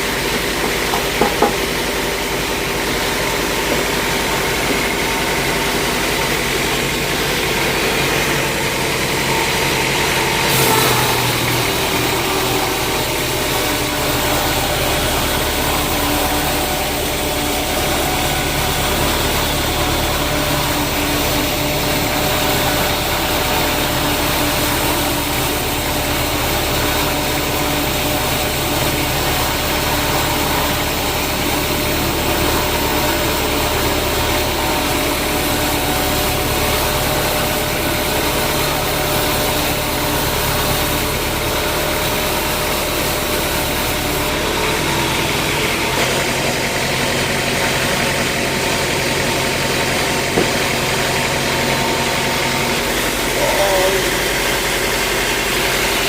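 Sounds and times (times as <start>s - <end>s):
sawmill machinery engine running: 0.0s - 56.0s.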